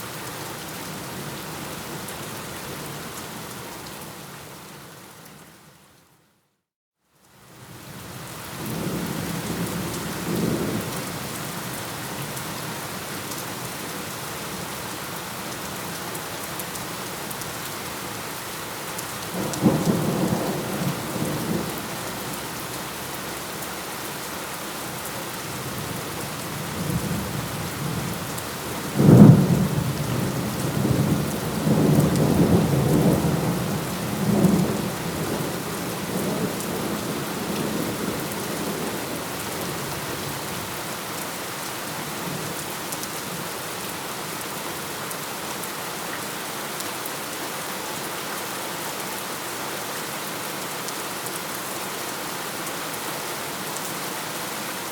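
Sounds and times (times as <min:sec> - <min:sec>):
steady rain: 0:00.0 - 0:06.2, 0:07.2 - 0:54.9.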